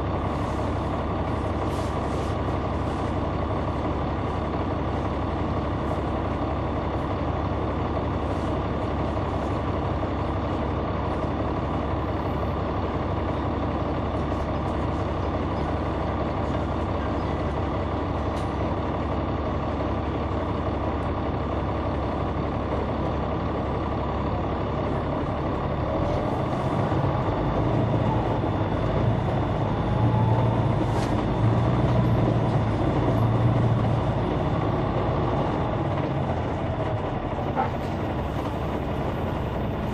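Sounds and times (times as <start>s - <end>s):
diesel bus engine rumble: 0.0s - 39.9s.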